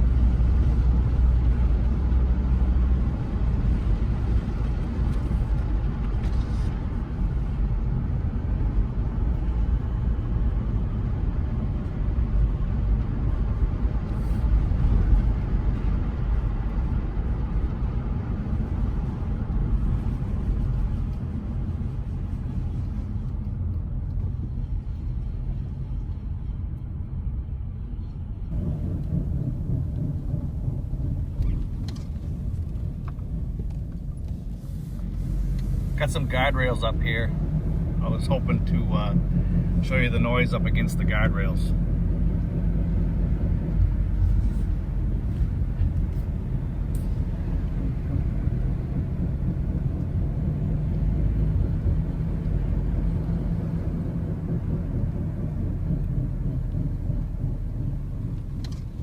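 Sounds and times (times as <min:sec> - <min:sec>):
tyre and road noise: 0:00.0 - 0:59.0.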